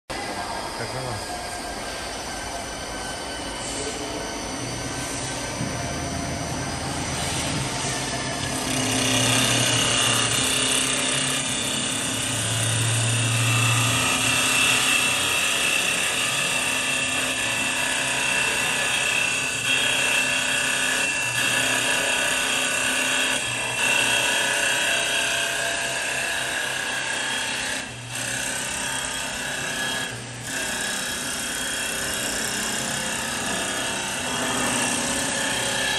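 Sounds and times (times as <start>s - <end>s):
lathe machine whine: 0.1s - 35.9s.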